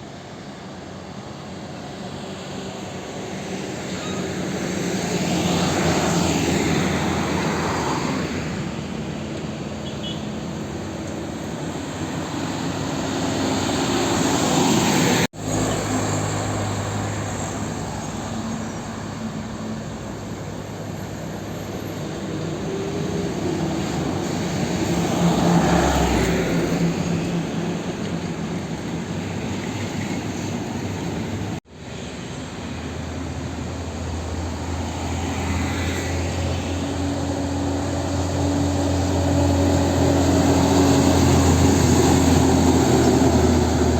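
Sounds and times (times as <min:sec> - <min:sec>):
diesel trucks driving past: 0:00.0 - 0:43.9.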